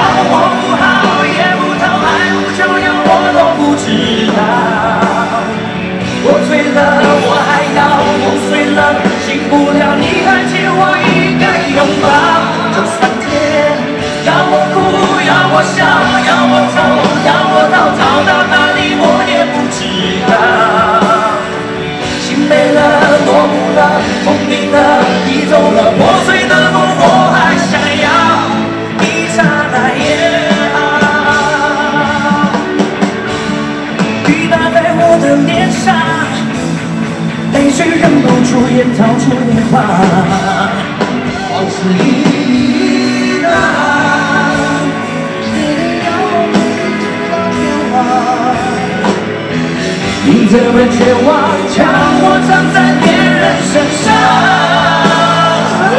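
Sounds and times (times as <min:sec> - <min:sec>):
man singing into a microphone: 0:00.0 - 0:33.0, 0:34.1 - 0:36.8, 0:37.4 - 0:55.9
live rock band with electric guitar: 0:00.0 - 0:55.9.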